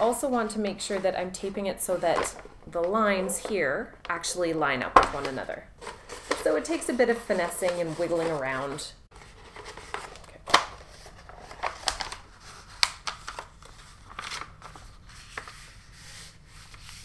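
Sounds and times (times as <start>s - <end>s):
paper rustling and crinkling: 0.0s - 3.5s, 5.2s - 17.0s.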